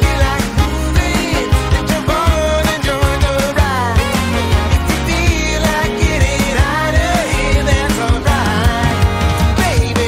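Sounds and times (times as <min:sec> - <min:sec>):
bass line: 0:00.0 - 0:10.0
person singing: 0:00.0 - 0:10.0
strummed acoustic guitars: 0:00.0 - 0:10.0.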